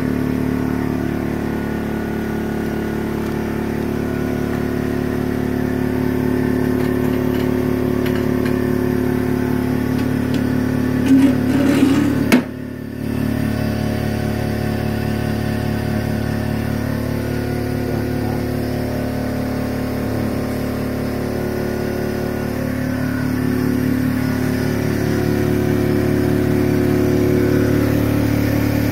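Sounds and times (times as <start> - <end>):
machine humming with regular pulse: 0.0 - 28.9.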